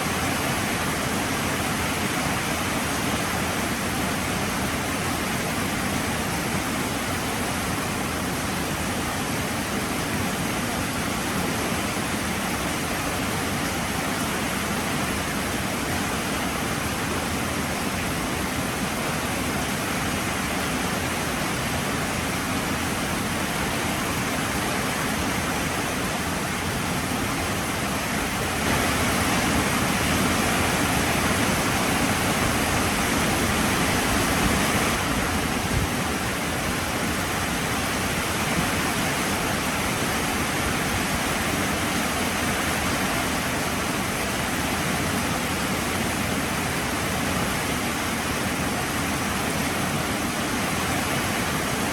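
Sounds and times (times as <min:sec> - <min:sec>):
heavy rain falling: 0:07.8 - 0:51.9.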